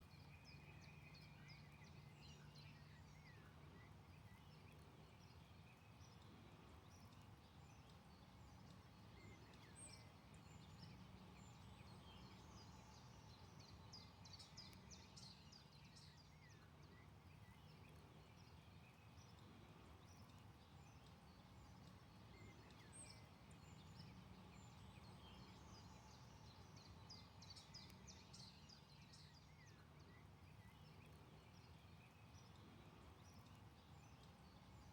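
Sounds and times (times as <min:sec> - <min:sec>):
songbirds chirping and trilling: 0:00.1 - 0:34.9.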